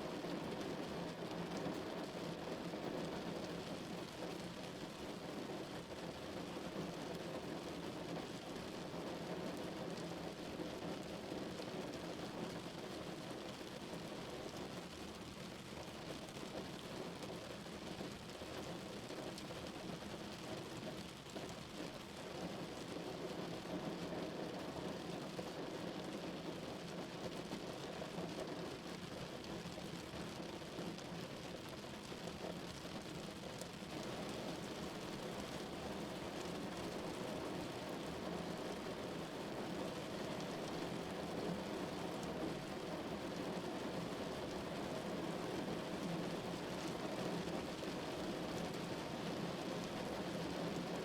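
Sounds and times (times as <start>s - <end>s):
rain on a car roof: 0.0s - 51.0s.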